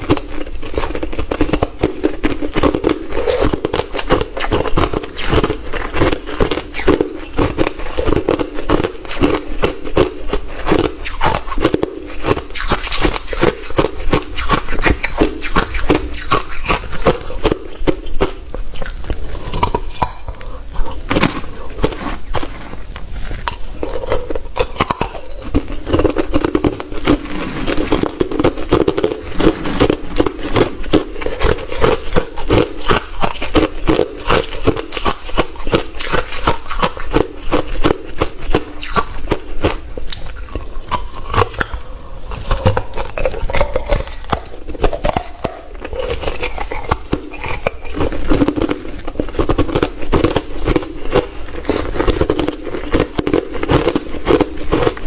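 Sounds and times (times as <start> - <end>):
crunching ice being chewed: 0.0 - 55.0.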